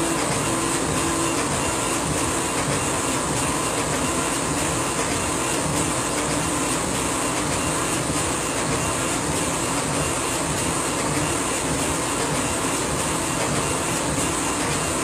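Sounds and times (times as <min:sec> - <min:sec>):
laser engraving machine running: 0:00.0 - 0:15.0.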